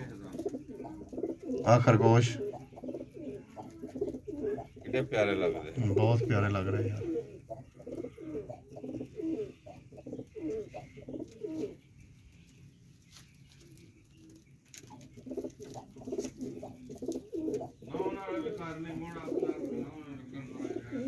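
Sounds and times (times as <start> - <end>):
pigeons cooing: 0.0 - 12.6, 13.2 - 21.0.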